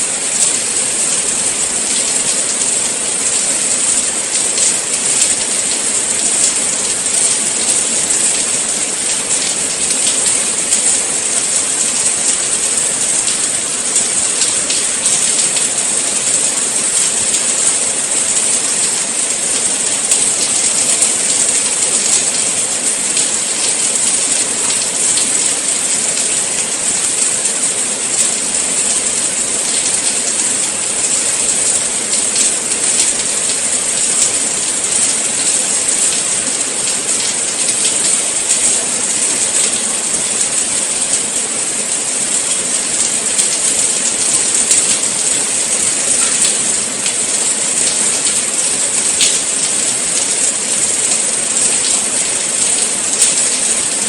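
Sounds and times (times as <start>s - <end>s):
patter of raindrops: 0.0s - 54.0s
steady rain hiss: 0.0s - 54.0s.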